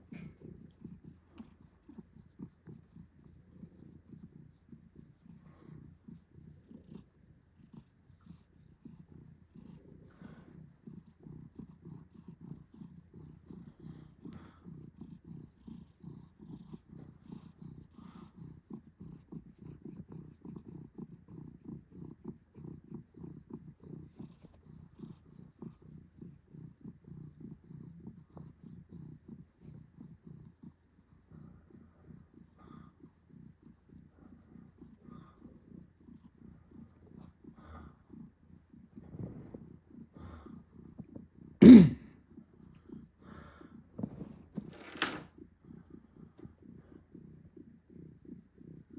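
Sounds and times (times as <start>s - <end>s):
cat purring: 0.0s - 41.6s, 45.3s - 48.9s.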